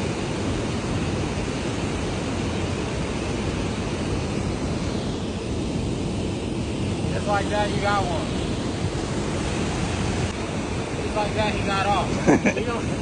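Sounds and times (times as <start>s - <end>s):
river water rushing: 0.2s - 13.0s.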